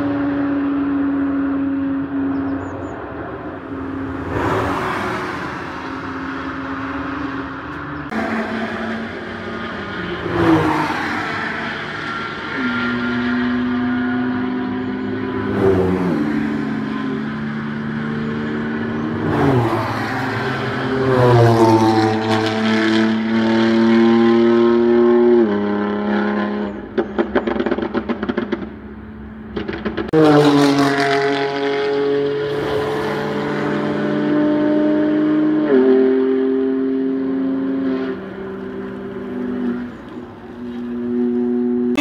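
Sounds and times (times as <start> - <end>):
race cars passing at full throttle: 0.0 - 42.0
car revving through gears: 3.4 - 28.8, 29.5 - 42.0.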